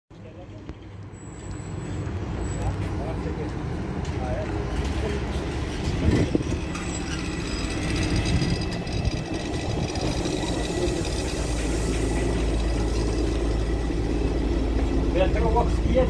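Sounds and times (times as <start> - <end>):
bus engine humming: 0.2 - 16.0.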